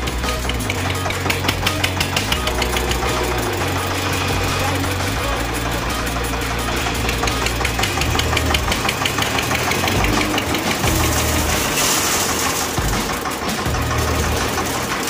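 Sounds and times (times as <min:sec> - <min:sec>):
tractor diesel engine clattering: 0:00.0 - 0:15.0.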